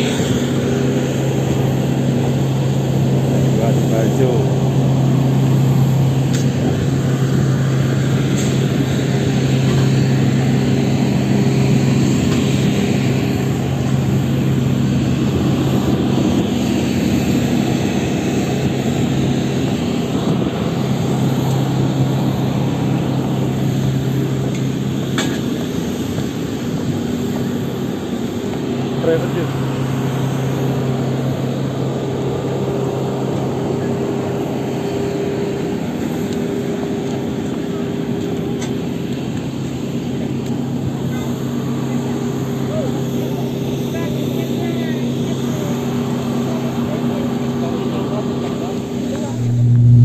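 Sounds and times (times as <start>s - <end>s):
turboprop engine drone: 0.0s - 50.0s.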